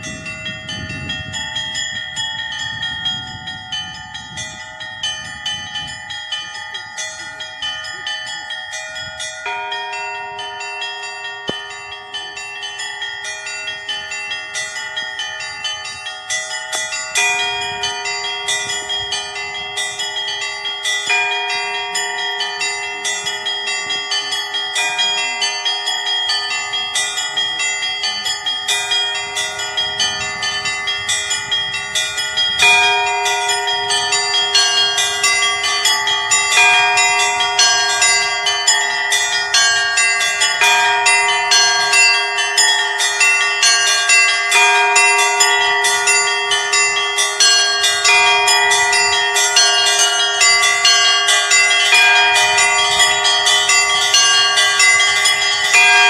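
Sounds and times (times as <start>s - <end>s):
low bell strikes: 0.0s - 56.0s
small bells ringing quickly: 0.0s - 56.0s.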